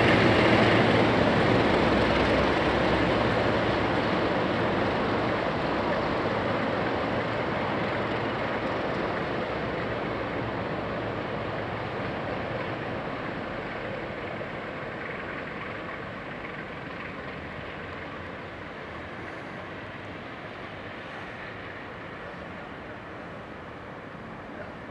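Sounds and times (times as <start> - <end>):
diesel locomotive engines running: 0.0 - 24.9.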